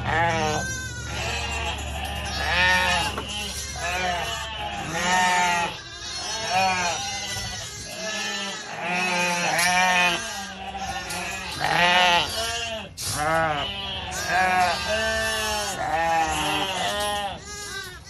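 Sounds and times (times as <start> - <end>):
sheep bleating: 0.0 - 18.0.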